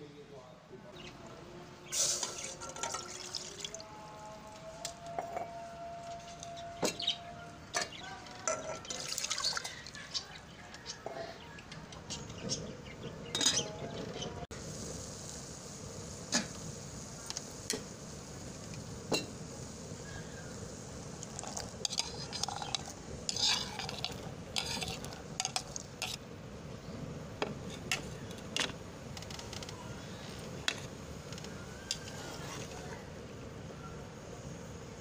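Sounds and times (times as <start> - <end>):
water hissing and bubbling in pot: 1.1 - 4.9, 5.6 - 12.6, 14.5 - 35.0.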